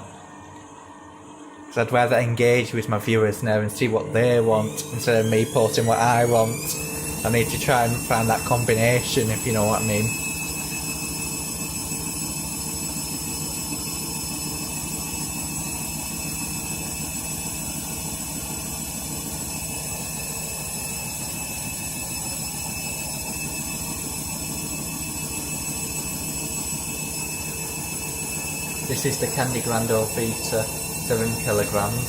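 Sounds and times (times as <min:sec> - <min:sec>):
high whine: 0:00.0 - 0:32.0.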